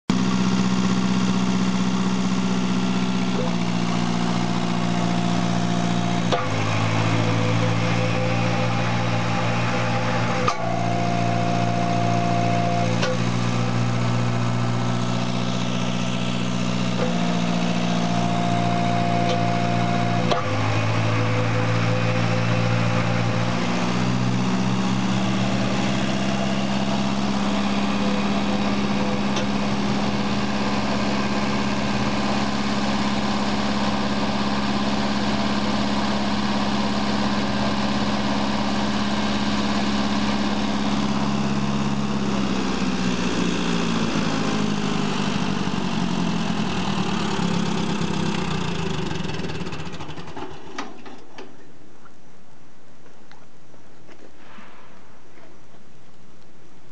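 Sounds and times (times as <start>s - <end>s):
mixer motor humming: 0.1s - 50.5s.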